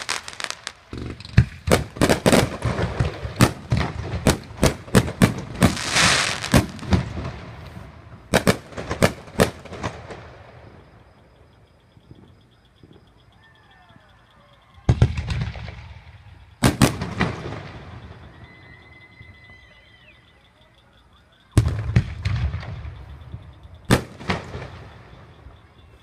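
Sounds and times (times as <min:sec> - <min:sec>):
fireworks bangs: 0:00.0 - 0:13.2, 0:14.8 - 0:18.9, 0:21.5 - 0:26.0
fireworks crackling: 0:00.0 - 0:13.4, 0:14.0 - 0:18.7, 0:21.6 - 0:26.0
faint fireworks whistles: 0:00.0 - 0:26.0.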